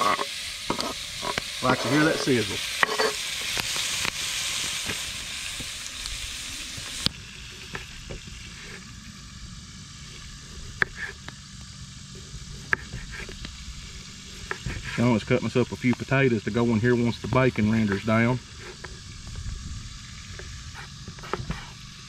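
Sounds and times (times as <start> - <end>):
bacon sizzling in a pot: 0.0 - 22.0.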